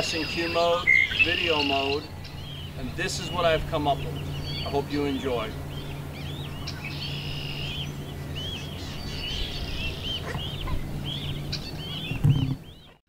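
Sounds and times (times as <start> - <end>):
birds chirping: 0.0 - 13.0
low hum: 0.0 - 13.0.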